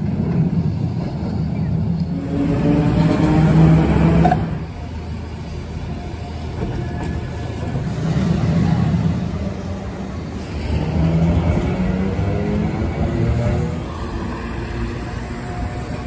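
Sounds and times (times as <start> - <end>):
cars and vans passing: 0.0 - 16.0
tram running on street track: 0.0 - 16.0.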